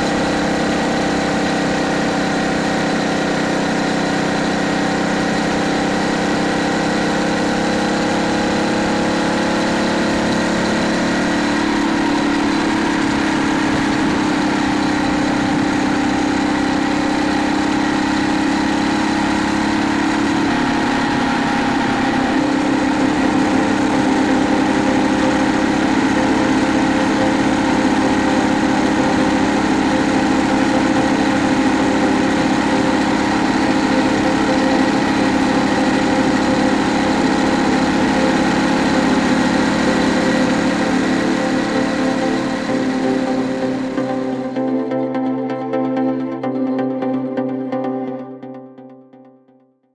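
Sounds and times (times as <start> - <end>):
small four-stroke engine running: 0.0 - 48.0.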